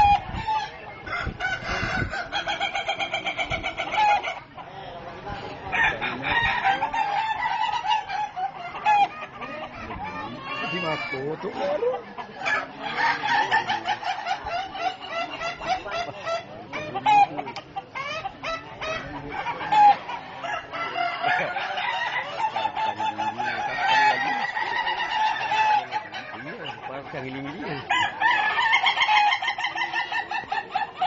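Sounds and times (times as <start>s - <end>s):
roosters crowing: 0.0s - 4.8s, 5.4s - 31.0s.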